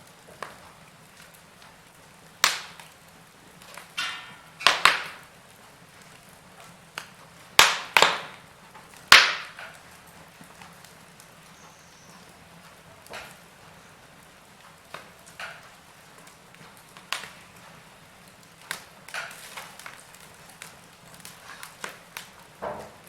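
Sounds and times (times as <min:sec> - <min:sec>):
faint steady hiss: 0:00.0 - 0:23.0
sharp fire pops: 0:00.0 - 0:23.0
wood fire crackling: 0:00.0 - 0:23.0.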